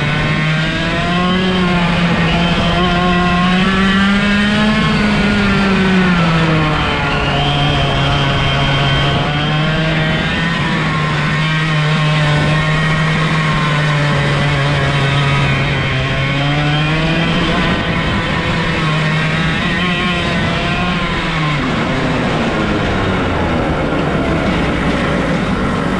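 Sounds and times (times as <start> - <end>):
two-stroke kart engine revving: 0.0 - 25.9.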